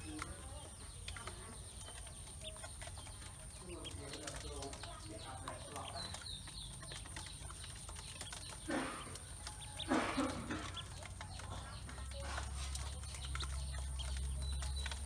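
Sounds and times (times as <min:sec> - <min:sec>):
bills pecking on metal: 0:00.0 - 0:15.0
ducklings scrabbling: 0:00.0 - 0:15.0.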